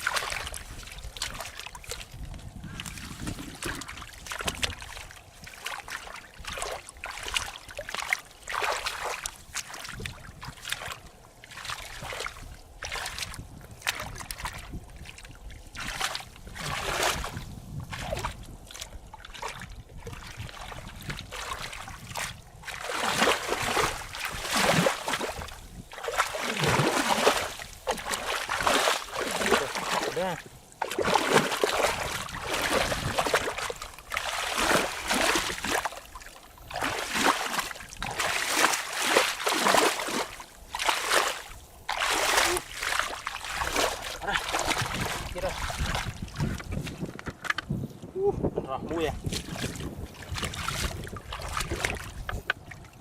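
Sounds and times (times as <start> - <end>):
shallow water splashing: 0.0 - 47.1, 49.2 - 53.0.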